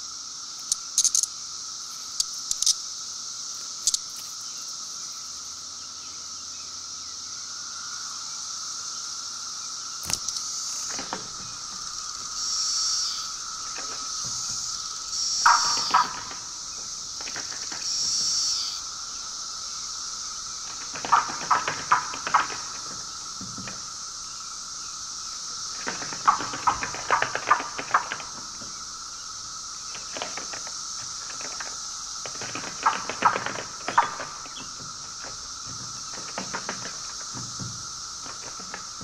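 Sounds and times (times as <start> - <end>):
cicada wings rattling on a dish: 0.0 - 5.9, 8.0 - 39.0
steady high hiss: 0.0 - 39.0.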